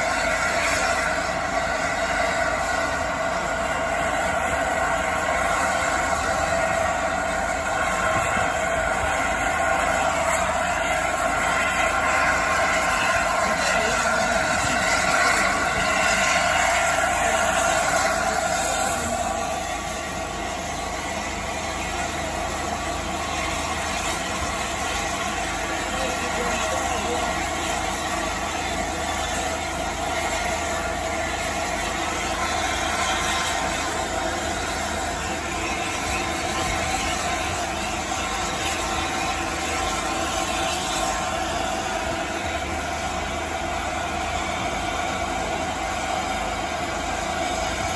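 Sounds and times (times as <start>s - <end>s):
steam hissing: 0.0s - 47.9s.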